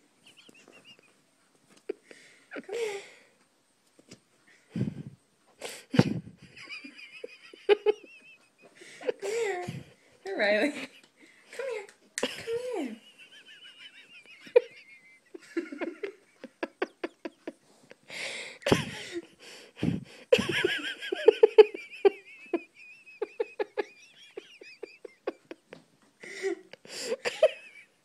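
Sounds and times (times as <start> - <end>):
person giggling softly: 0.2 - 3.3, 4.6 - 10.0, 13.7 - 27.9.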